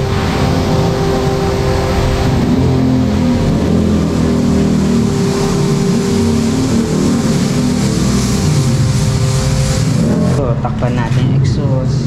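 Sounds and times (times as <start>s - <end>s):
water jet hissing: 0.0s - 10.5s
pressure washer pump humming: 0.0s - 11.3s.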